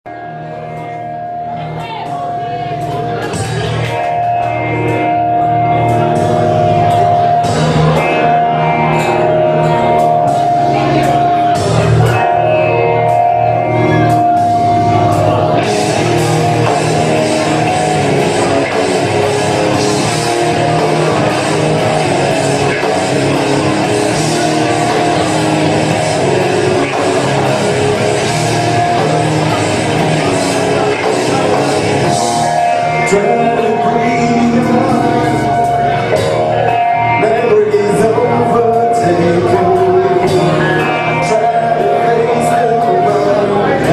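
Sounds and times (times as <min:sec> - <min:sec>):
live rock music: 0:00.1 - 0:43.9.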